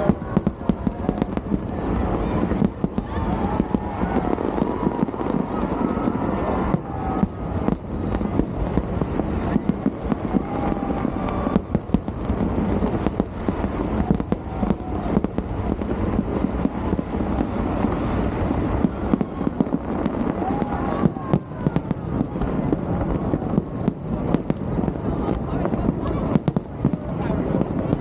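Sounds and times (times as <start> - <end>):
fireworks rumble of bursts: 0.0 - 28.0
sharp firework bangs and crackles: 0.0 - 28.0.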